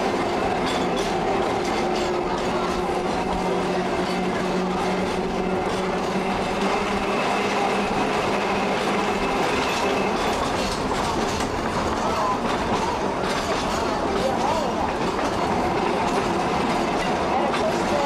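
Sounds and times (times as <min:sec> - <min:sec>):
trolley car rolling on track: 0:00.0 - 0:18.0.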